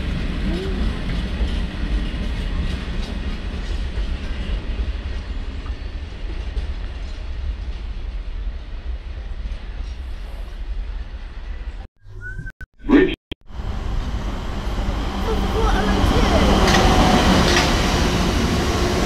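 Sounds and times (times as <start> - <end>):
freight train rumbling past: 0.0 - 11.9, 13.5 - 19.0.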